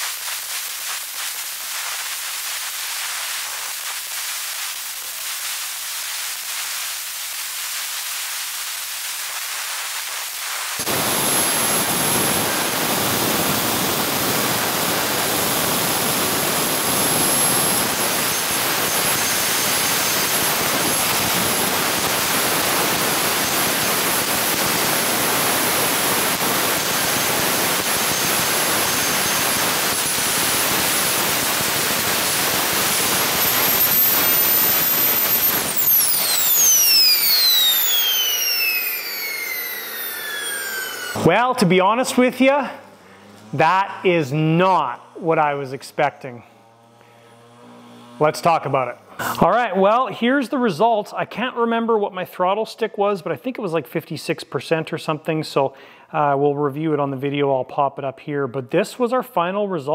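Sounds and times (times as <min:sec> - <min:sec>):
jet turbine rushing with whine: 0:00.0 - 0:50.3.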